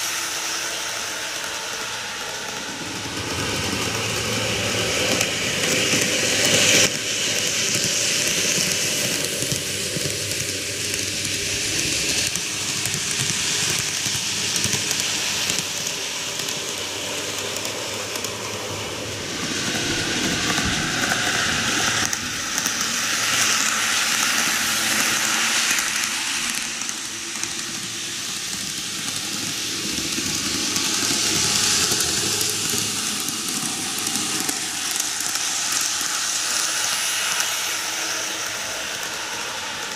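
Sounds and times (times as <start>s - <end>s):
model trains rolling on track: 0.0s - 39.9s.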